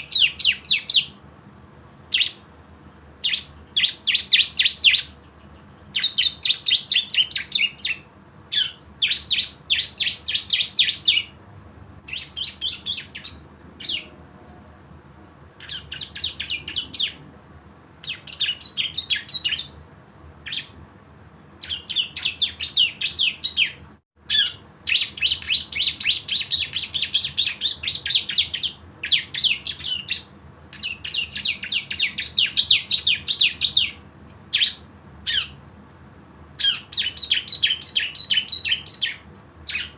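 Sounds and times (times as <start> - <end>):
songbird rapid trill: 0.0 - 1.2, 2.1 - 2.5, 3.2 - 11.4, 12.1 - 14.2, 15.6 - 17.2, 18.0 - 19.8, 20.4 - 20.8, 21.6 - 35.6, 36.6 - 39.9.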